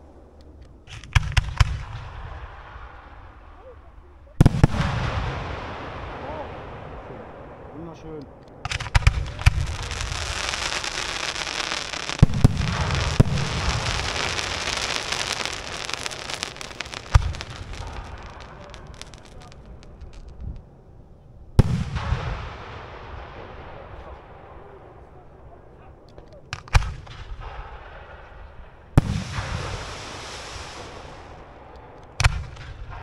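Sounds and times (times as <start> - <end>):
fireworks crackling hiss: 0.0 - 20.7, 26.3 - 33.0
fireworks bangs: 0.0 - 33.0.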